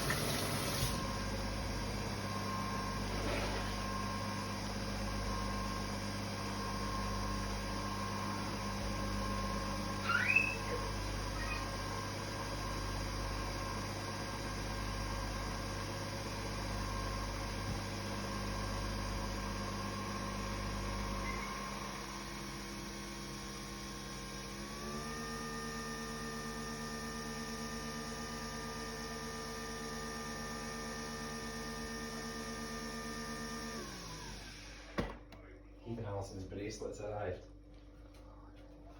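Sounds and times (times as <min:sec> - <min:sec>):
coffee machine humming: 0:00.0 - 0:35.4.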